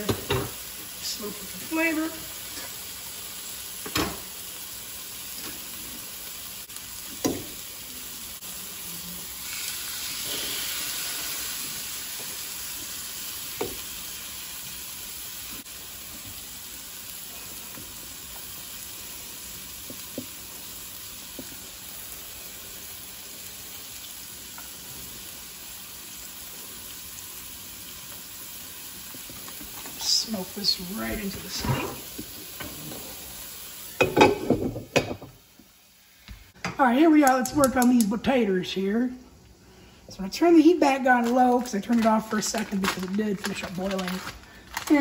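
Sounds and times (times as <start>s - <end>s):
steak sizzling in a frying pan: 0.0s - 38.6s.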